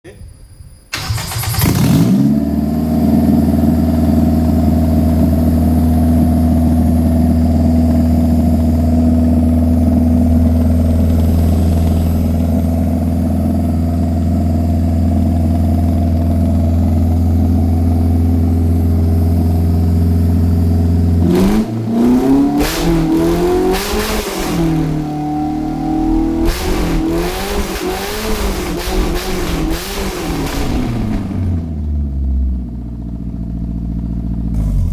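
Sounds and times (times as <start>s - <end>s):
car engine idling and revving: 1.0s - 34.9s.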